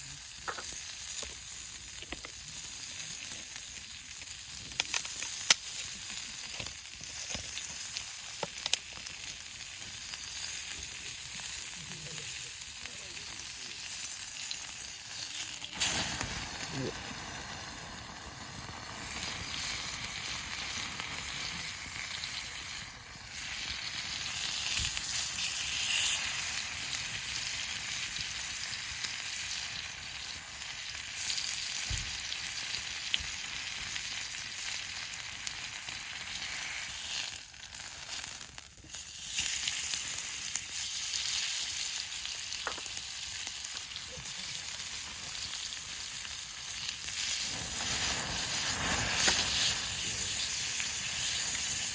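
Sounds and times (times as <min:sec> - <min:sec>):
food sizzling in a pan: 0:00.0 - 0:51.9.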